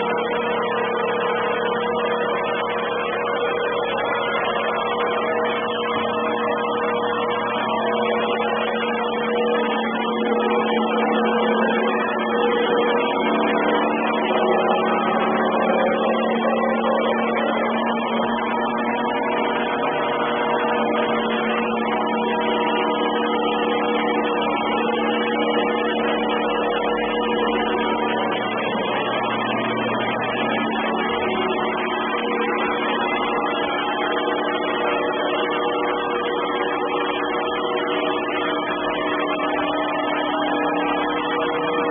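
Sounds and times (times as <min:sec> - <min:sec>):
robot vacuum cleaner running: 0:00.0 - 0:41.9.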